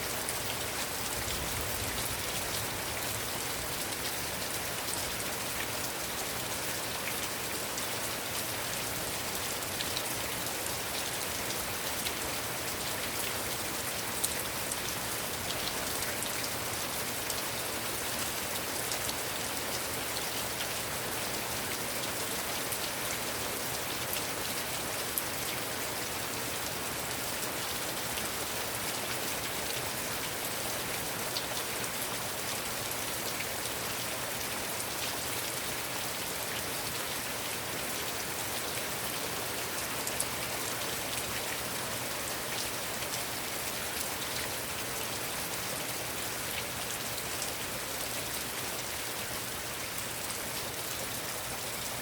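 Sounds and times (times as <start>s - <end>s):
raindrops hitting surfaces: 0.0s - 52.0s.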